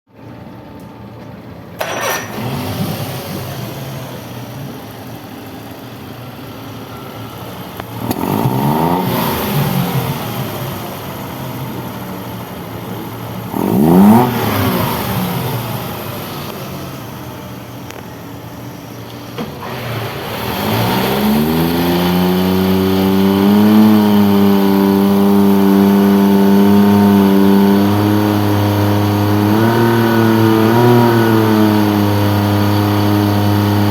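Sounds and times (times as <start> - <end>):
outboard motor revving: 1.8 - 6.0, 6.8 - 33.9.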